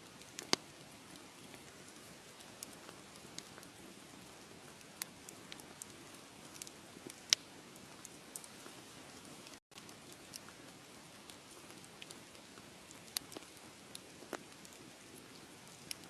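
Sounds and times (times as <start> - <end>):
wood fire crackling: 0.0 - 16.0
fire popping: 0.1 - 16.0.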